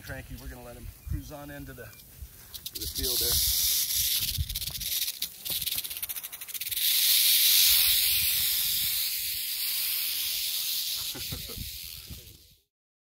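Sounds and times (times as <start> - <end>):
rattlesnake rattling: 1.2 - 12.7.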